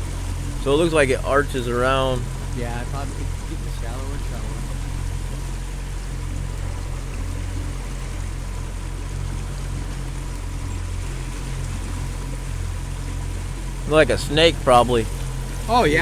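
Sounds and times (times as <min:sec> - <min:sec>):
boat motor running: 0:00.0 - 0:16.0
water rushing along hull: 0:00.0 - 0:16.0.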